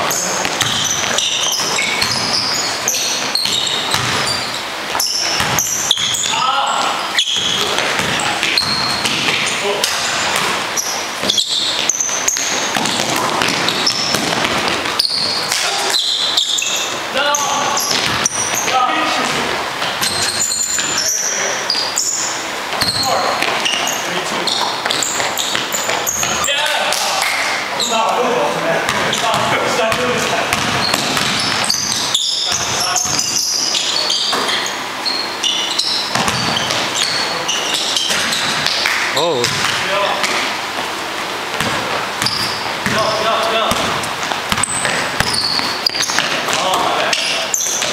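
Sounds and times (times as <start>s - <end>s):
basketball bouncing: 0.0s - 27.6s, 28.9s - 47.9s
sneakers squeaking on gym floor: 0.0s - 47.9s.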